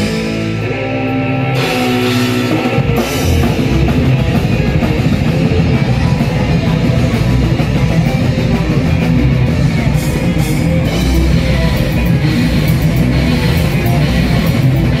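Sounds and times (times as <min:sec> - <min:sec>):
distorted electric guitar riffing: 0:00.0 - 0:15.0
drum kit: 0:00.0 - 0:15.0.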